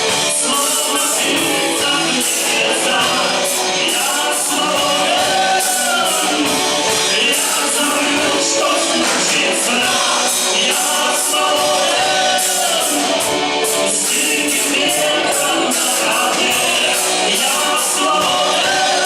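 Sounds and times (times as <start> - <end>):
live band playing: 0.0 - 19.0
person singing: 0.0 - 19.0.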